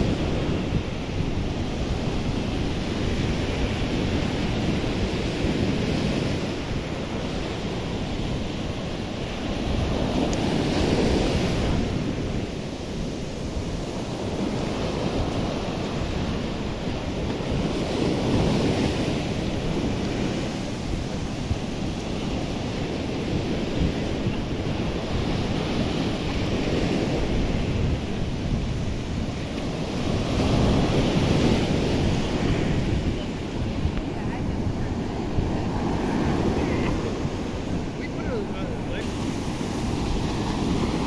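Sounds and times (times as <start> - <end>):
surf breaking on beach: 0.0 - 41.0
wind rumbling on microphone: 0.0 - 41.0.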